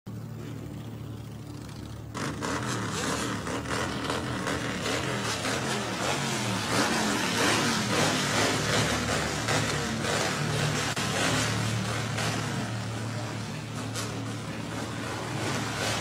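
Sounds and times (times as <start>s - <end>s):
motorcycle engine idling and revving: 0.1s - 16.0s.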